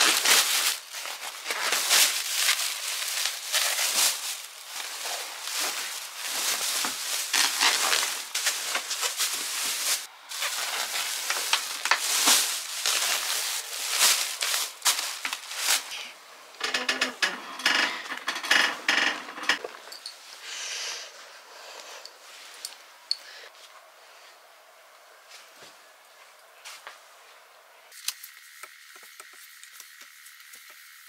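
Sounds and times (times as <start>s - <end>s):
rustling and scraping of objects: 0.0s - 20.4s, 25.2s - 31.0s.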